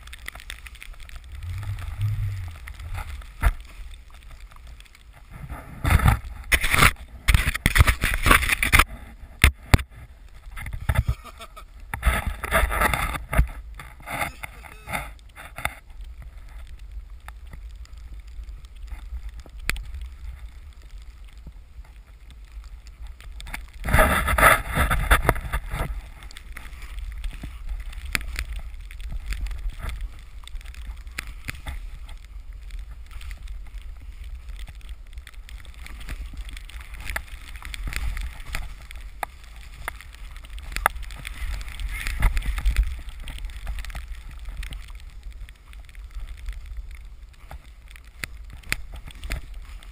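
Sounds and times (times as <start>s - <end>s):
snowboard sliding through powder snow: 0.0s - 8.3s, 16.3s - 49.9s
low wind rumble on microphone: 0.0s - 49.9s.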